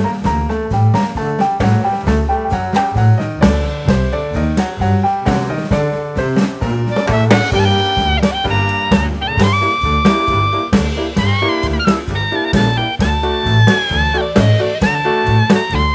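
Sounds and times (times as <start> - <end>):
upbeat jazzy music: 0.0 - 15.9.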